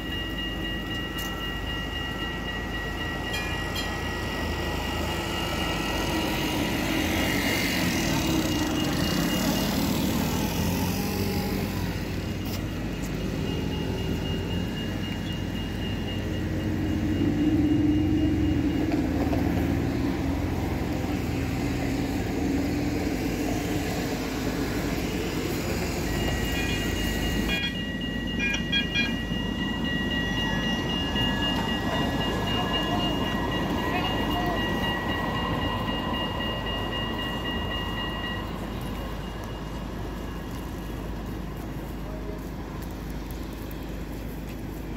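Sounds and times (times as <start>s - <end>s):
street noise: 0.0s - 44.9s
tram rumbling on tracks: 0.0s - 44.9s.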